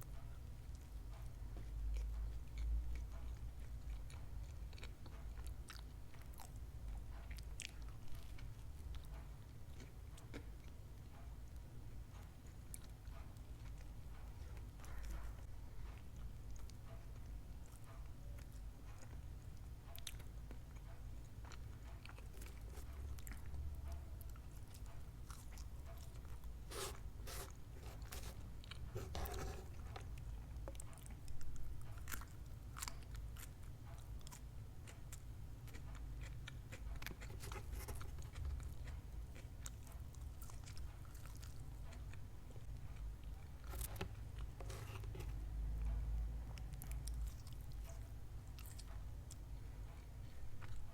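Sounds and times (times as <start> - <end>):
steady low hum: 0.0 - 50.9
chewing crunchy food: 0.7 - 50.9.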